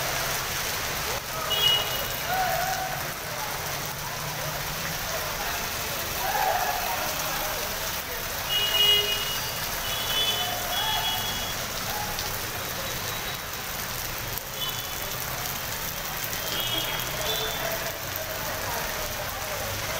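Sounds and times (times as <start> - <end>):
floodwater running over road: 0.0 - 19.9
heavy rain hissing: 0.0 - 19.9.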